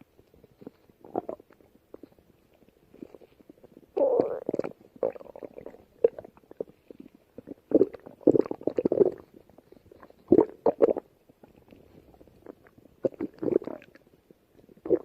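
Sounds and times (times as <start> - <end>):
stomach growling and gurgling: 0.0 - 15.0.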